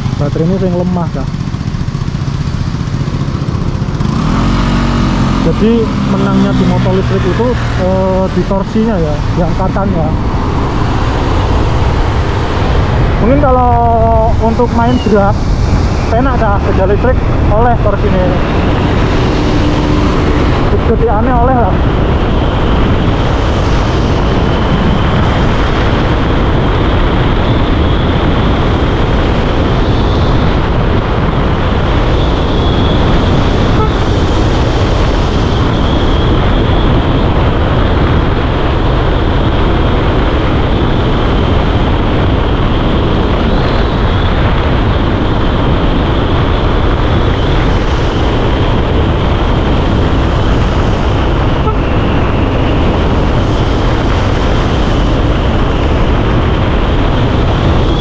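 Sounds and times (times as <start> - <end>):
steady high whine: 0.0 - 58.0
tyre and road noise: 0.0 - 58.0
wind rushing over microphone: 0.0 - 58.0.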